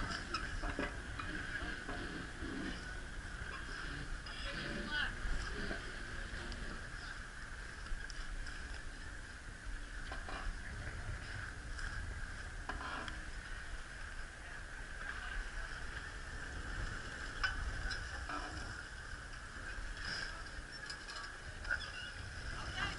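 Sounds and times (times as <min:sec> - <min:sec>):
boat engine low rumble: 0:00.0 - 0:22.9.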